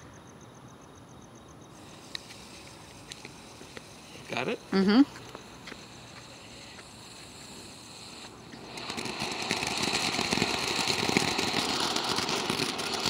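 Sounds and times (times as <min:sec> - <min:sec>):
firework fountain hissing and crackling: 0:01.7 - 0:13.0.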